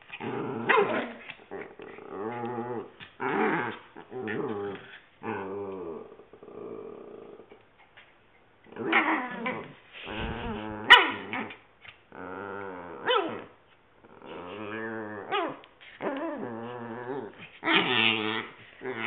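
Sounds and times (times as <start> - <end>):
dogs growling: 0.0 - 7.6, 8.7 - 19.0.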